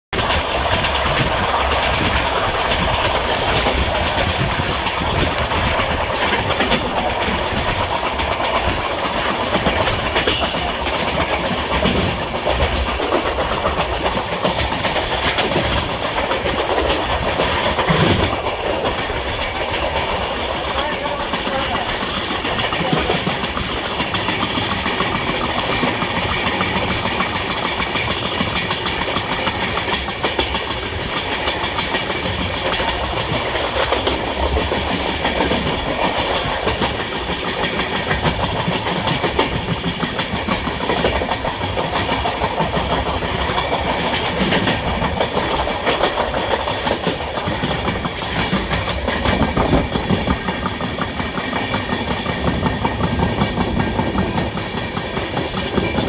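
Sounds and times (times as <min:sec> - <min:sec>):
train wheels and wind rushing: 0:00.1 - 0:56.0
wheels clicking over rail joints: 0:00.2 - 0:56.0.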